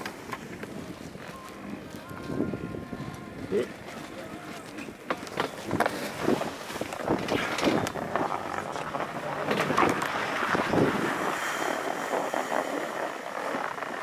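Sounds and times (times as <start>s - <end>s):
skis scraping over snow: 0.0s - 14.0s
wind noise on microphone: 0.0s - 14.0s.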